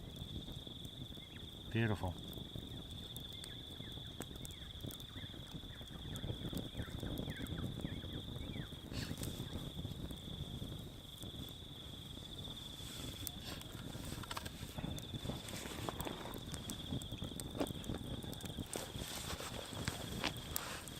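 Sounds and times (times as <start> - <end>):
campfire crackling and popping: 0.0 - 20.9
crickets chirring: 0.0 - 20.9.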